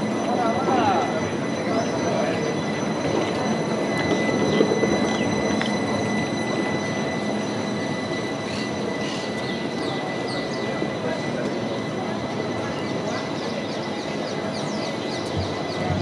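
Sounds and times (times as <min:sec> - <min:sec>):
high steady whine: 0:00.0 - 0:16.0
tram wheels rumbling on rail: 0:00.0 - 0:16.0.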